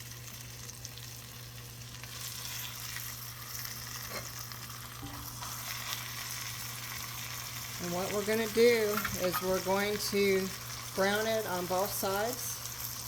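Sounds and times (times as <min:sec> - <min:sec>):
chicken sizzling in butter: 0:00.0 - 0:13.0.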